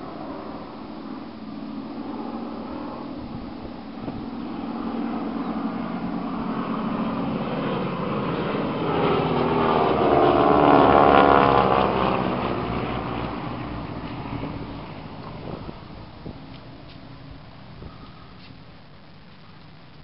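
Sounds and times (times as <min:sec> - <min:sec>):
propeller planes droning overhead: 0:00.0 - 0:20.0.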